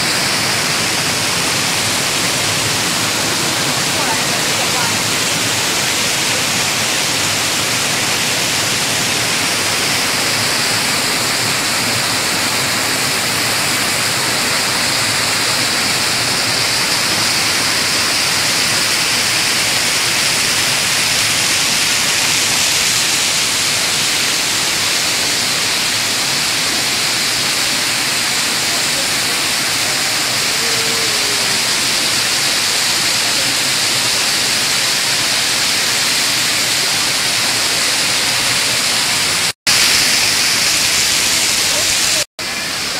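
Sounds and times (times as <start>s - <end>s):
water pouring and splashing: 0.0s - 42.9s.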